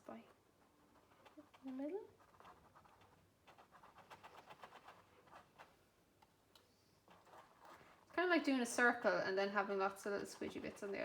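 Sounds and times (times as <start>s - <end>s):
paintbrush dabbing on paper: 0.6s - 6.3s, 6.9s - 11.0s.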